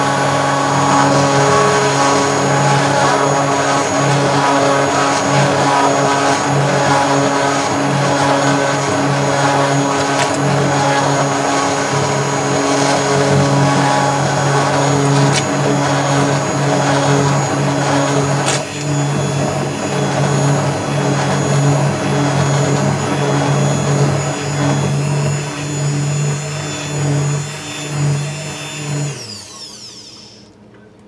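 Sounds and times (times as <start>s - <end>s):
stick blender motor hum: 0.0s - 30.6s.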